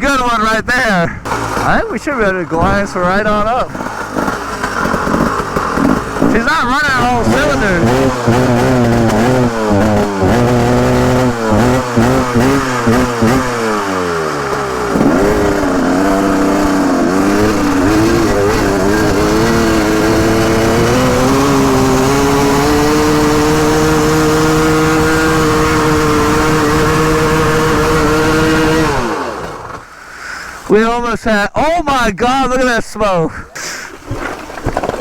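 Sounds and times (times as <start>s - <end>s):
motorcycle engine revving: 0.8s - 30.1s.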